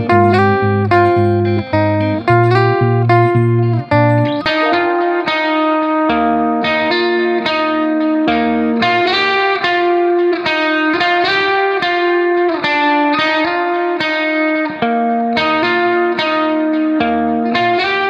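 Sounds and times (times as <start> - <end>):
guitar plucking notes and chords: 0.0 - 18.0.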